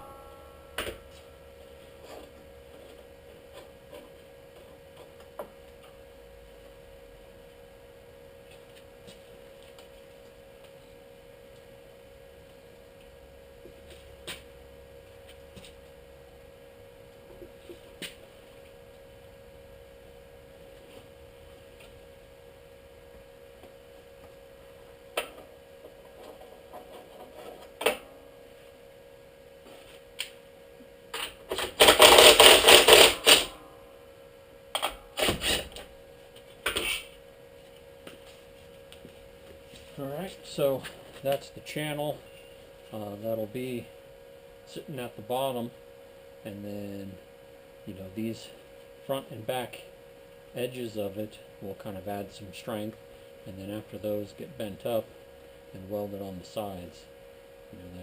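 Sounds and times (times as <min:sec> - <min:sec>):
steady hum: 0:00.0 - 0:58.0.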